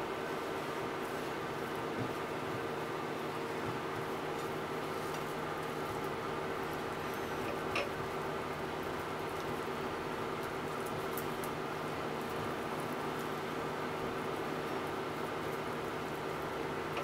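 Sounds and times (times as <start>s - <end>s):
steady background hum and hiss: 0.0s - 17.0s.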